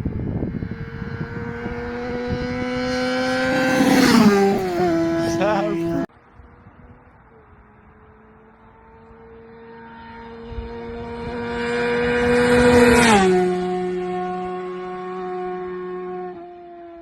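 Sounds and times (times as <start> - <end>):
motorcycle passing by: 0.0 - 17.0.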